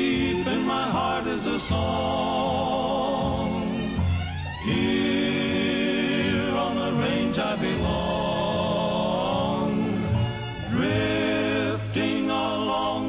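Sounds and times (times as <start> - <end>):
male vocal group singing: 0.0 - 13.0.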